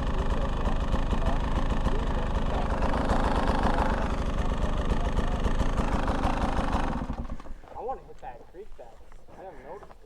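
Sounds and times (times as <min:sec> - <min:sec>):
two-stroke dirt bike idling: 0:00.0 - 0:08.8.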